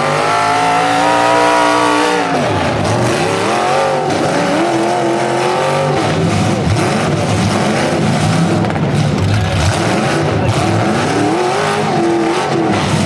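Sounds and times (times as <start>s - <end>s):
car engines revving hard: 0.0s - 13.0s.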